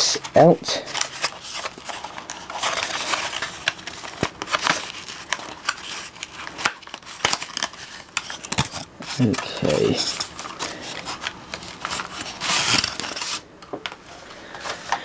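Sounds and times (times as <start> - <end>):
cardboard rustling and scraping: 0.9 - 15.0.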